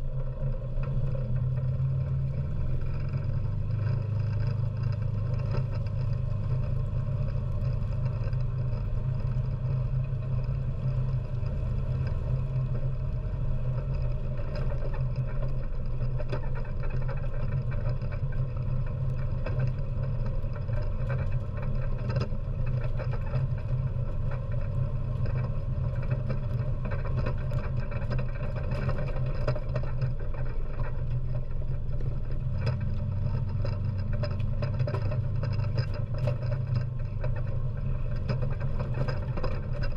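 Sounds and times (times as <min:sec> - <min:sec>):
atv engine running: 0:00.0 - 0:39.9
tires on gravel road: 0:00.0 - 0:39.9
faint ticks: 0:00.2 - 0:39.9.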